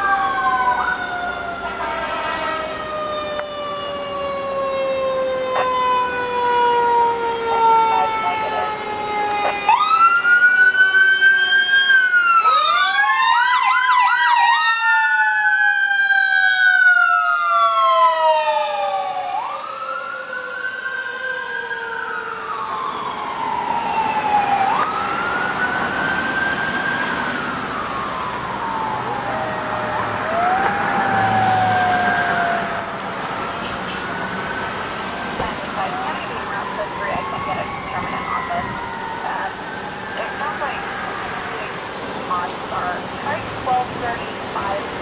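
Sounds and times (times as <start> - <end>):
electronic siren wailing: 0.0 - 45.0
mechanical siren whine: 0.0 - 45.0.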